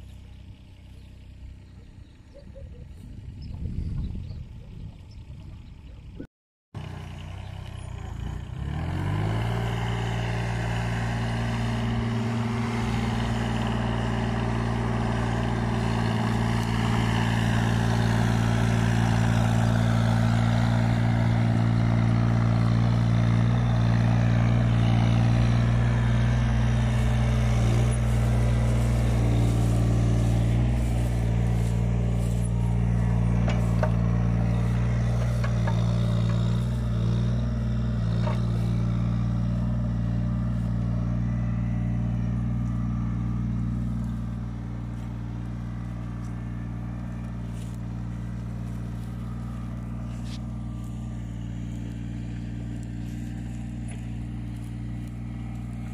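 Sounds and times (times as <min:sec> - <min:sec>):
excavator diesel engine drone: 0:00.0 - 0:03.5, 0:06.8 - 0:55.9.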